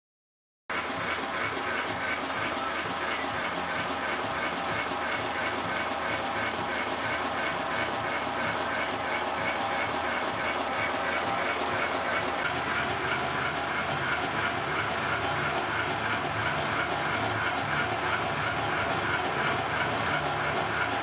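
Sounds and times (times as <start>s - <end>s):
high-pitched machine whine: 0.7s - 21.0s
milling machine running: 0.7s - 21.0s.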